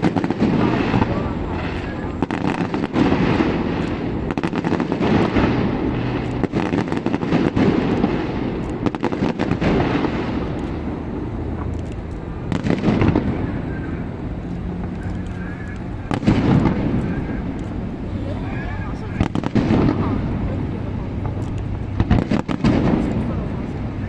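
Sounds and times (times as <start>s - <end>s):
continuous rumble: 0.0s - 24.0s
fireworks bangs and crackling: 0.0s - 24.0s.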